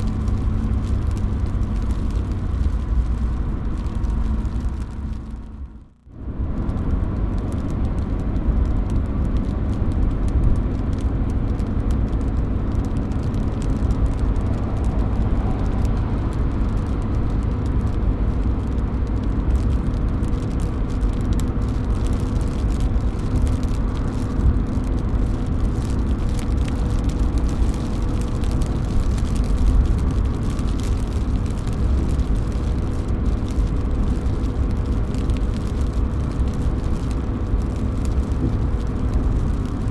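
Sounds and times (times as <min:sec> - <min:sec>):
low rumble: 0:00.0 - 0:39.9
rain dripping off a roof: 0:00.0 - 0:39.9.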